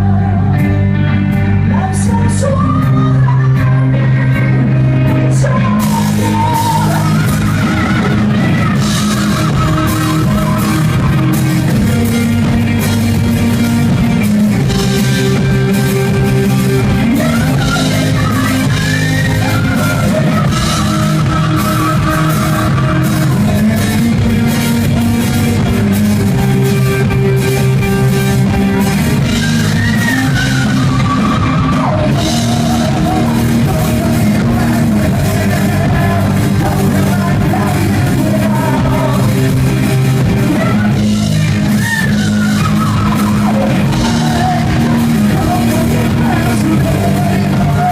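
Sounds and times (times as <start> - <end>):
drum kit: 0.0 - 47.9
guitars: 0.0 - 47.9
rock band playing live: 0.0 - 47.9.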